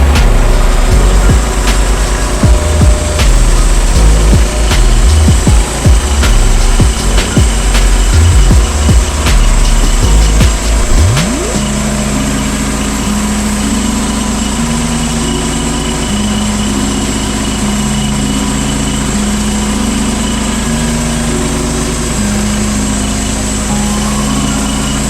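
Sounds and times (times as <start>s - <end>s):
sawmill engine running: 0.0s - 25.0s
simple tune: 0.0s - 25.0s.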